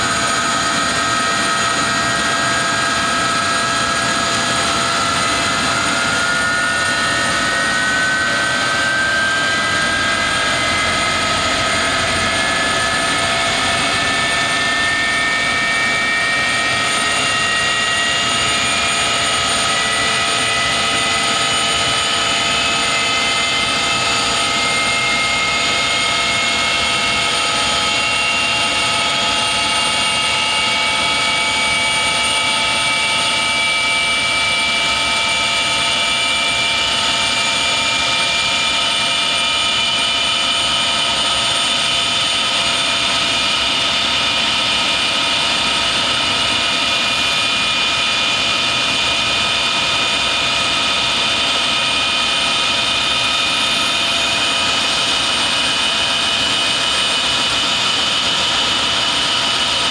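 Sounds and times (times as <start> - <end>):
jet engines roaring: 0.0 - 59.9
rising engine whines: 0.0 - 59.9.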